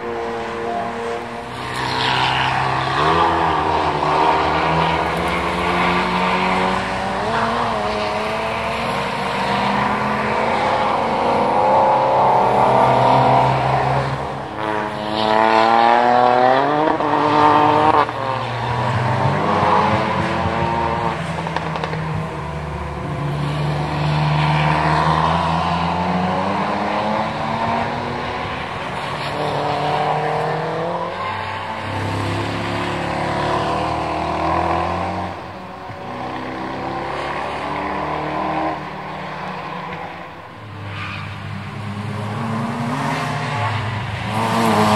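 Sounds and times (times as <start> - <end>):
car engines revving hard: 0.0 - 44.9.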